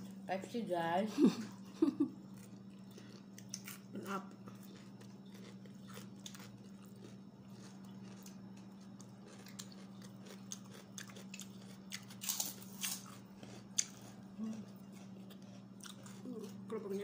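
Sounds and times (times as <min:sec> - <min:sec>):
steady low hum: 0:00.0 - 0:17.0
chewing crunchy food: 0:01.6 - 0:17.0.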